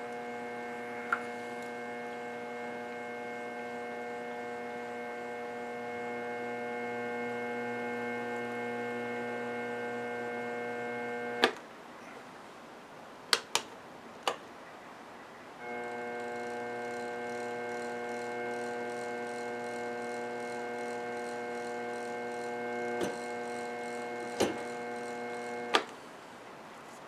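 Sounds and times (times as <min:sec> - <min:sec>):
milling machine spindle motor humming: 0:00.0 - 0:11.4, 0:15.6 - 0:25.9.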